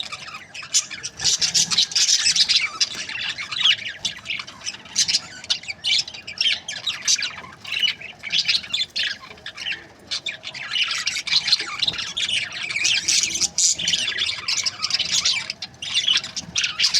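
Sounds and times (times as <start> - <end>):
budgerigars chirping: 0.0 - 16.9.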